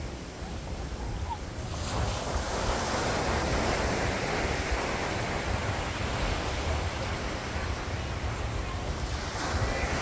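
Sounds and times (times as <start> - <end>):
ocean surf breaking: 0.0 - 10.0
wind rumbling on microphone: 0.0 - 10.0.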